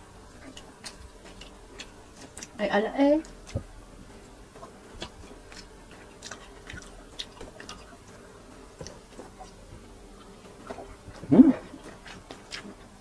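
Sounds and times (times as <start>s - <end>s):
person chewing food: 0.3s - 2.6s, 3.2s - 13.0s.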